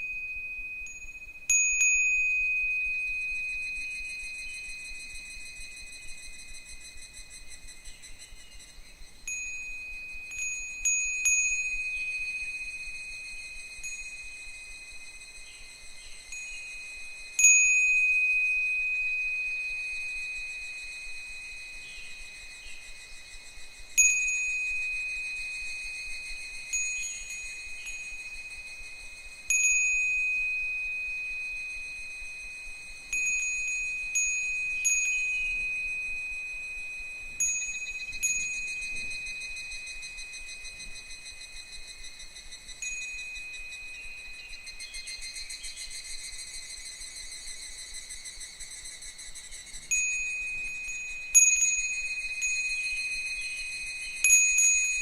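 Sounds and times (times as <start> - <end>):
wind bell ringing: 0.0 - 8.1, 9.2 - 55.0.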